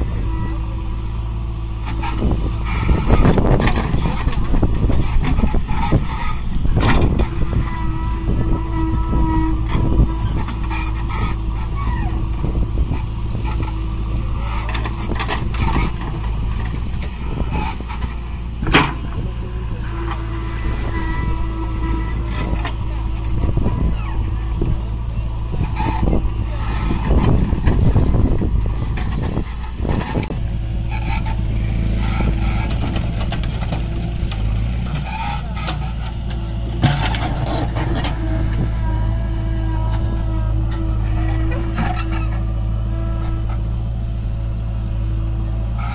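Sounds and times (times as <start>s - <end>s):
diesel engines running: 0.0s - 45.9s
backhoe knocking on soil: 1.9s - 44.4s.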